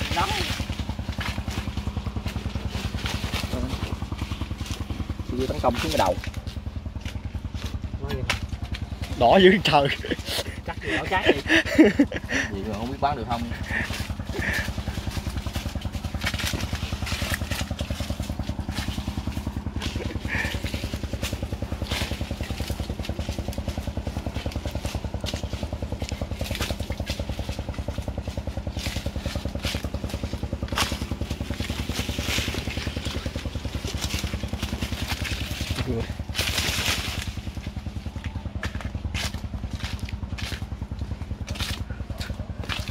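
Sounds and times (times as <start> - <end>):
small engine puttering: 0.0 - 42.9.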